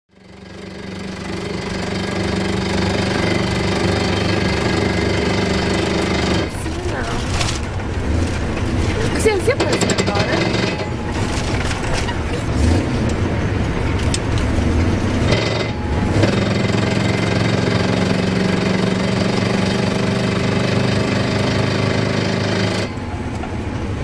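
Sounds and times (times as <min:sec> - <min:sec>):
vehicle engine drone: 0:00.1 - 0:24.0
vehicle rattling: 0:00.1 - 0:24.0.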